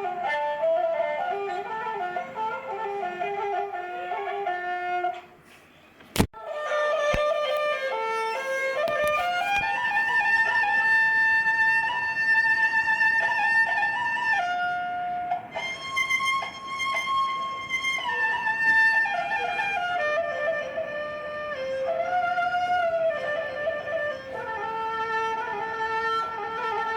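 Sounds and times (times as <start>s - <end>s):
slow bowed string melody: 0.0s - 5.3s, 6.4s - 26.9s.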